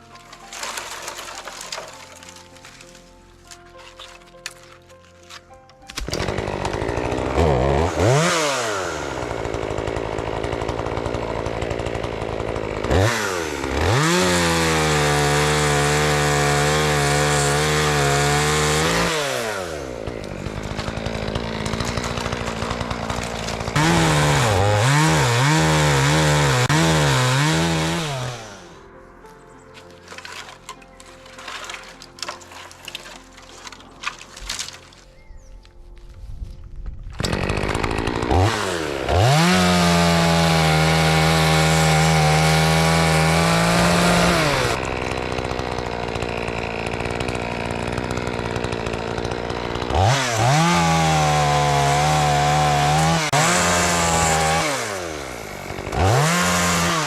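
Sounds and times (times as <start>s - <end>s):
chainsaw cutting: 0.0s - 28.9s, 29.8s - 35.3s, 37.2s - 57.0s.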